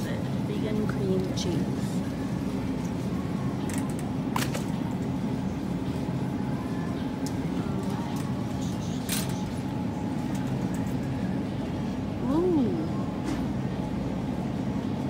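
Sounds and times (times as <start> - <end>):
supermarket refrigeration hum: 0.0 - 15.0.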